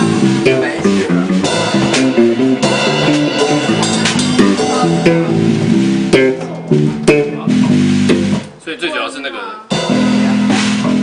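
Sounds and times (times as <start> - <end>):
sharp percussive hits: 0.0 - 8.6, 9.7 - 11.0
bass guitar line: 0.0 - 11.0
guitar: 0.0 - 11.0.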